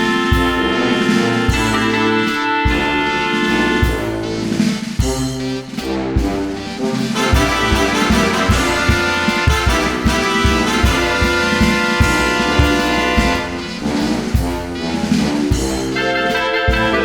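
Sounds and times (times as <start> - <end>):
upbeat jazz with brass: 0.0 - 17.0.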